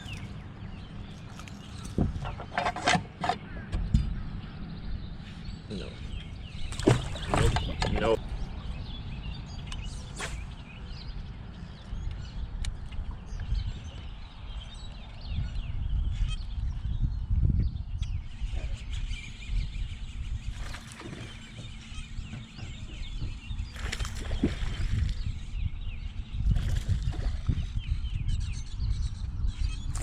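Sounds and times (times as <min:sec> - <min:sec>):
birds chirping: 0:00.0 - 0:30.0
constant low rumble: 0:00.0 - 0:30.0.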